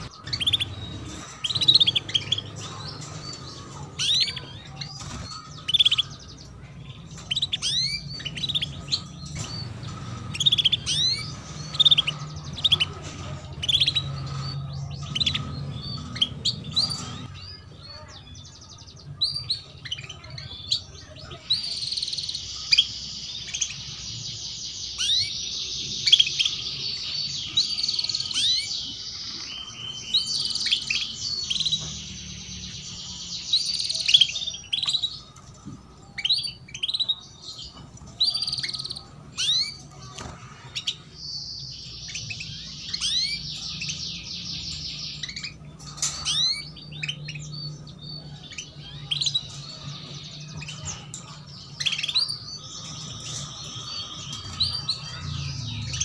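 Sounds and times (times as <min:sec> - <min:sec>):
canary chirps: 0:00.0 - 0:56.0
canary trills: 0:00.0 - 0:56.0.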